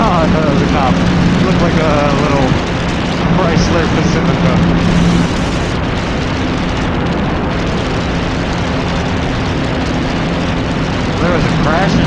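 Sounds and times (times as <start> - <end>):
motorcycle engine hum: 0.0 - 12.0
wind rush on microphone: 0.0 - 12.0.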